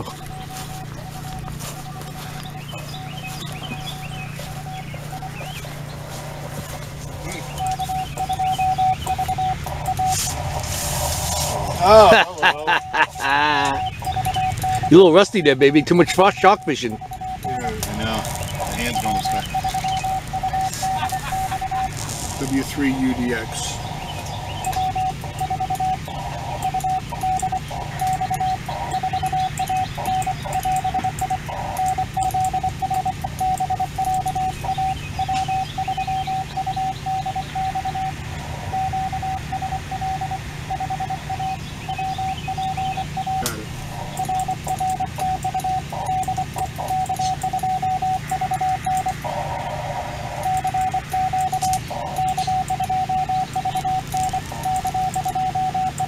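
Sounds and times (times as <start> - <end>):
morse code tone: 0.0 - 56.0
steady low hum: 0.0 - 56.0.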